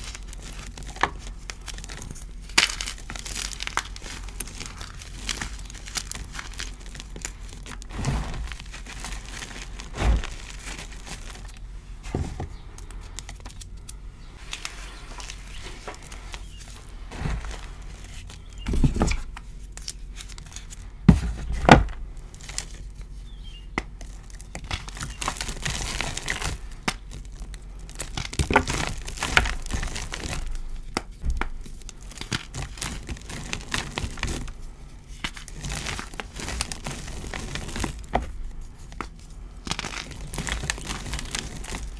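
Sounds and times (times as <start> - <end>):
hands crushing chalk: 0.0 - 41.9.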